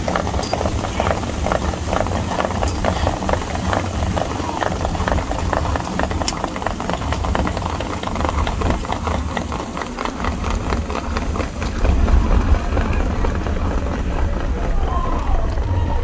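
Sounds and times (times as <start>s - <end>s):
car engine and road rumble: 0.0s - 16.0s
horse hooves on dirt: 0.0s - 16.0s.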